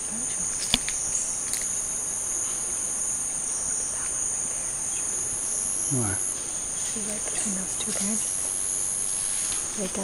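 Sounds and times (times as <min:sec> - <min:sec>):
shrill insect chorus: 0:00.0 - 0:10.0.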